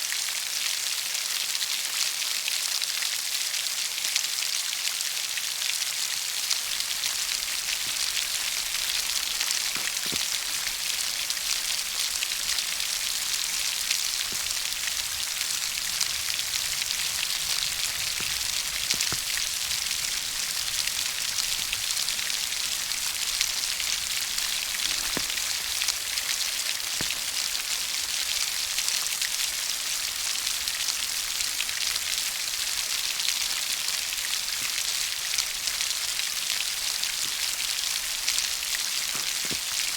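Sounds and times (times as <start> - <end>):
steady rain hiss: 3.6 - 39.9.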